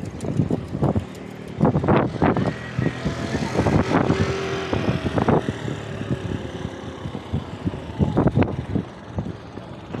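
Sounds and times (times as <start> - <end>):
bicycle road rumble: 0.0 - 10.0
wind on microphone: 0.0 - 10.0.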